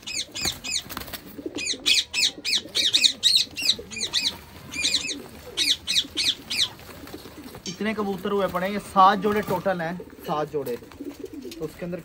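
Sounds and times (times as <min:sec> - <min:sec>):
pigeon wings fluttering: 0:00.0 - 0:01.9, 0:03.6 - 0:12.0
pigeons cooing: 0:00.0 - 0:12.0
small birds chirping: 0:00.0 - 0:12.0.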